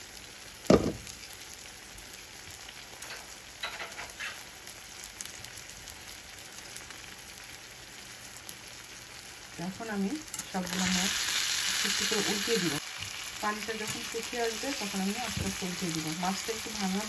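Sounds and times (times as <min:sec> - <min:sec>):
fish sizzling in a pan: 0:00.0 - 0:17.0.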